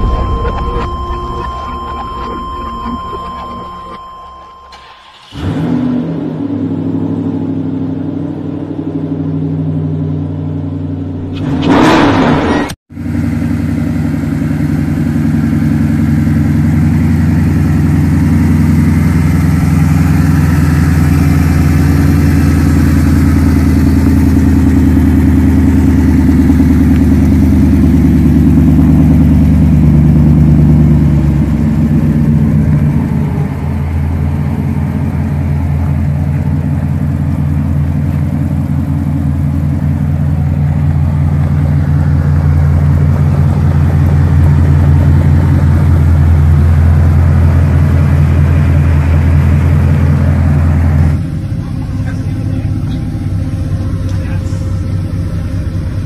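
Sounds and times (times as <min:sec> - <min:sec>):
car engine pulsing idle: 0:00.0 - 0:12.3, 0:13.0 - 0:56.0.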